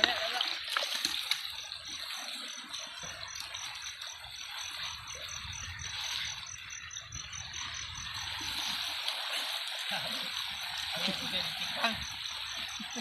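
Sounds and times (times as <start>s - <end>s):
river water rumbling: 0.0s - 13.0s.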